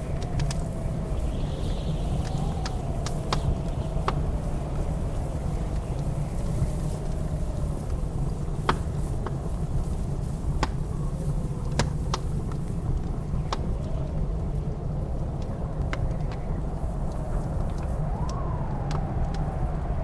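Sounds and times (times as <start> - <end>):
fire popping: 0.0 - 20.0
howling blizzard wind: 0.0 - 20.0
wood fire crackling: 0.0 - 20.0.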